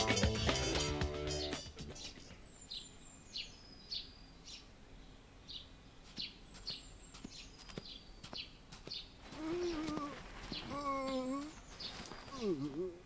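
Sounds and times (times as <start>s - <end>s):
birds chirping: 0.0s - 13.0s
faint background hiss: 0.0s - 13.0s.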